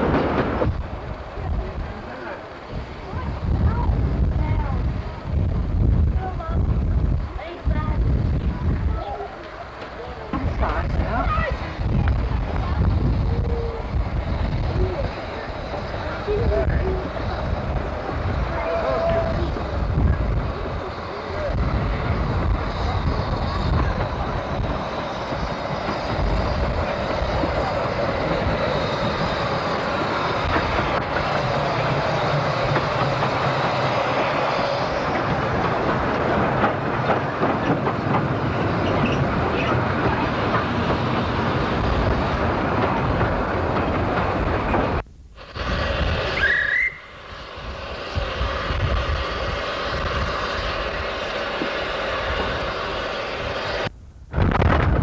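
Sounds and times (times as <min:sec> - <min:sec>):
miniature steam train running: 0:00.0 - 0:53.9.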